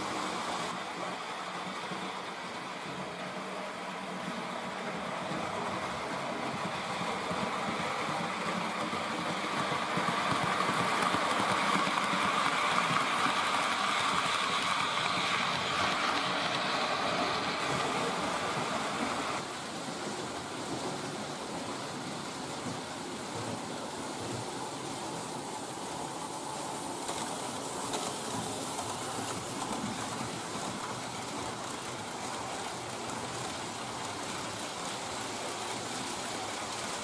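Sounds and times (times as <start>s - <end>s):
model train whirring on rails: 0.0s - 37.0s.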